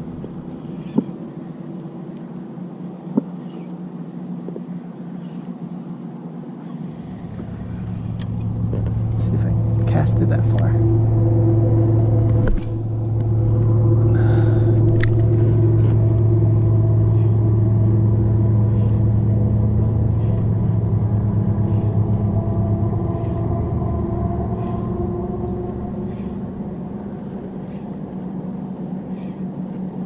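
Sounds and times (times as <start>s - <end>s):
low engine drone: 0.0s - 30.0s.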